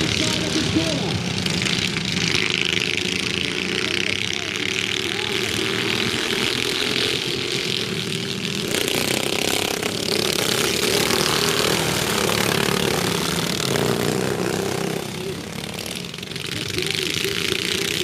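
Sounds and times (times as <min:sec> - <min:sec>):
ride-on lawnmower engines racing: 0:00.0 - 0:18.0.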